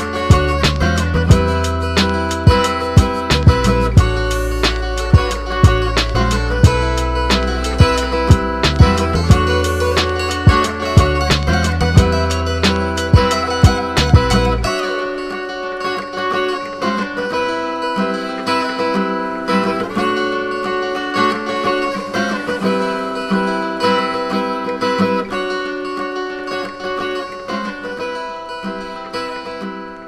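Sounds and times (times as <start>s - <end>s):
plucked acoustic guitar music: 0.0s - 30.0s.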